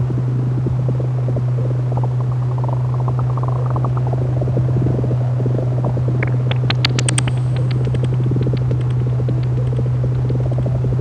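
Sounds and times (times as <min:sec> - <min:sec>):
low synth drone: 0:00.0 - 0:11.0
rapid synth clicks and blips: 0:00.6 - 0:11.0.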